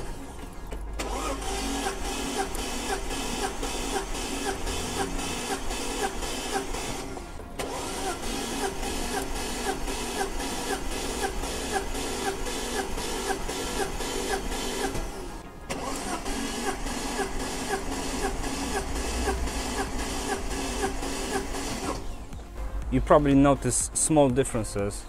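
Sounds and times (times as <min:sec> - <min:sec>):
engine starter motor cranking: 0:00.0 - 0:22.5.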